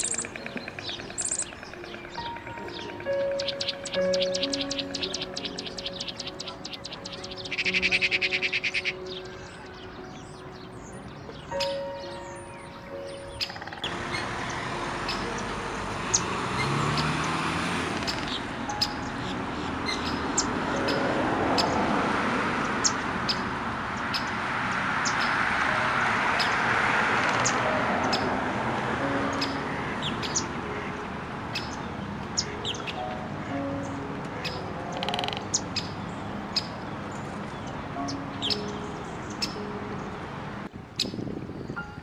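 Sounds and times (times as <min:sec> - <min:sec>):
small birds chirping: 0:00.0 - 0:21.9, 0:22.7 - 0:24.4, 0:25.0 - 0:25.5, 0:29.3 - 0:30.9, 0:31.5 - 0:40.1, 0:40.9 - 0:42.0.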